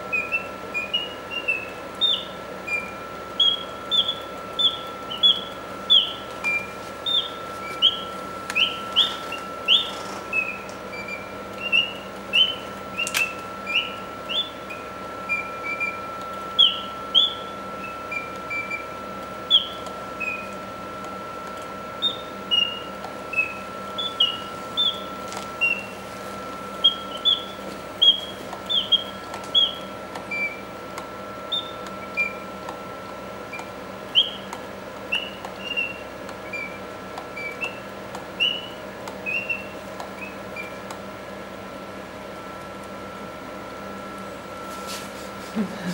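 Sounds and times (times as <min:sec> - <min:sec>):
mechanical bird whistle chirping: 0:00.0 - 0:20.6, 0:21.9 - 0:26.0, 0:26.7 - 0:30.7, 0:31.4 - 0:32.6, 0:33.5 - 0:40.8
faint steady hum: 0:00.0 - 0:45.9.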